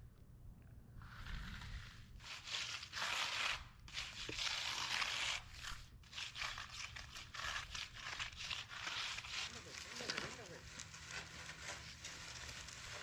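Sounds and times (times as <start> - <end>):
scraping and crunching strokes: 1.0 - 13.0.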